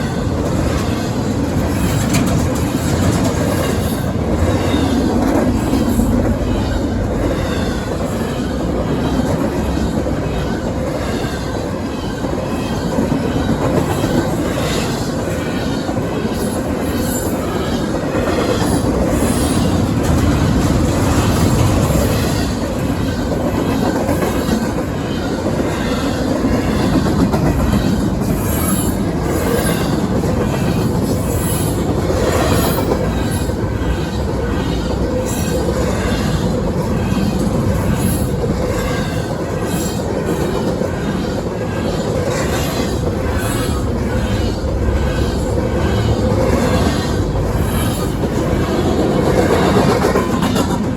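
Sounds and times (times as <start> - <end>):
train wheels clicking over rail joints: 0.0 - 50.9.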